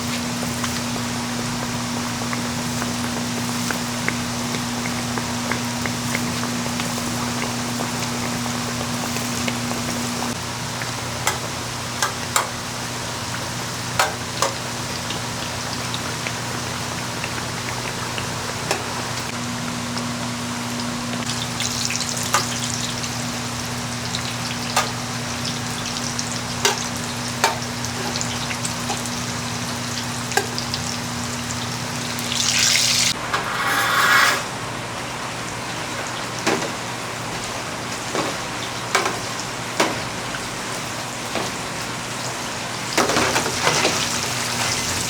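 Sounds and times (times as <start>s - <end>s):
dough sizzling in hot oil: 0.0s - 45.0s.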